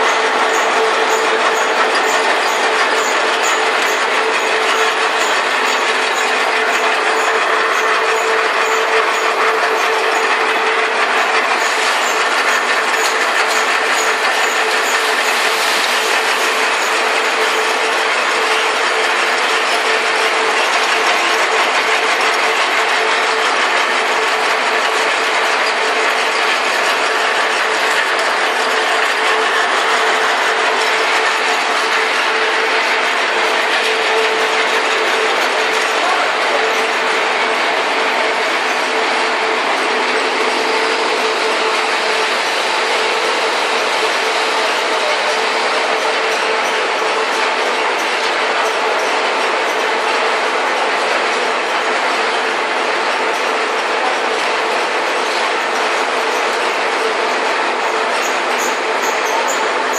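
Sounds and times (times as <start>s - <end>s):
machinery hum and rattle: 0.0s - 59.9s.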